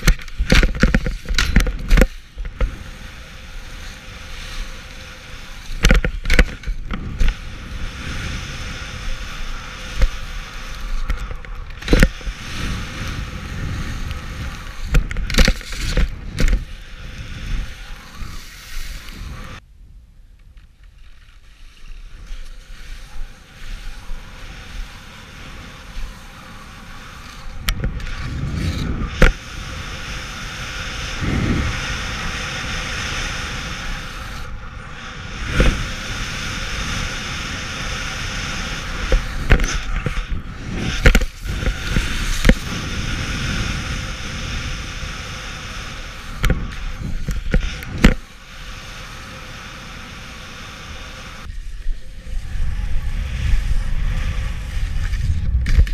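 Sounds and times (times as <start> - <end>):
skis scraping over snow: 0.0 - 19.6, 20.8 - 55.9
wind on microphone: 0.0 - 20.8, 21.4 - 55.9.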